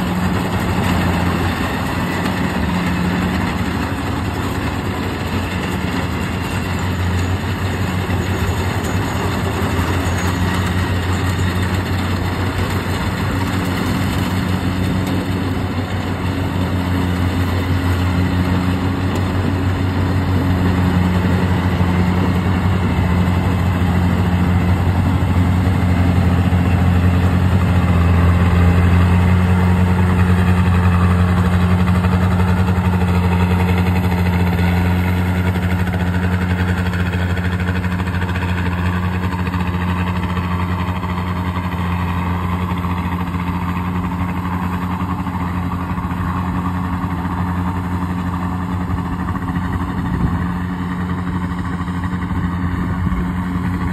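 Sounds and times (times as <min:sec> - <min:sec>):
combine harvester diesel engine hum: 0:00.0 - 0:53.9
harvesting machinery noise: 0:00.0 - 0:53.9.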